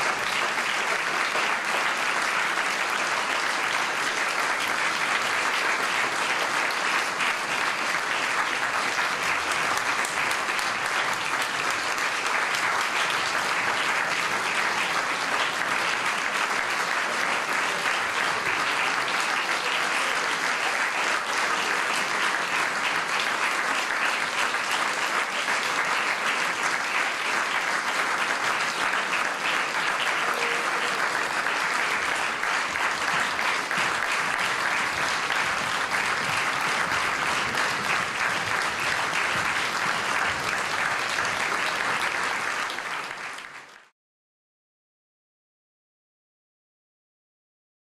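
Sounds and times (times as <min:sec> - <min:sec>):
audience applauding: 0:00.0 - 0:43.9.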